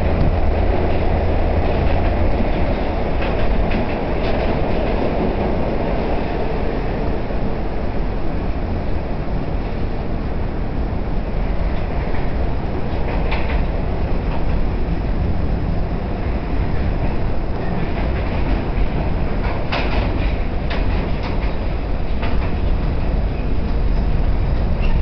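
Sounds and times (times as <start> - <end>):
wheels clicking over rail joints: 0.0 - 6.6, 11.5 - 25.0
subway car roaring through tunnel: 0.0 - 25.0.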